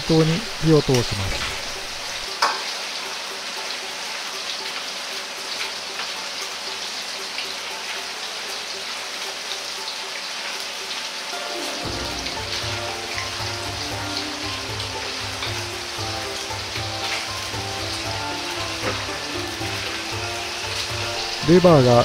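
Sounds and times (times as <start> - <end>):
liver deep-frying in oil: 0.0 - 22.0.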